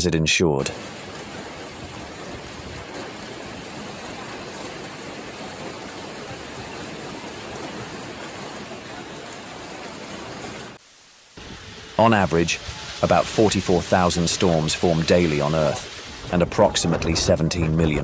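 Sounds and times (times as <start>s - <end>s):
water rushing: 0.3s - 18.0s.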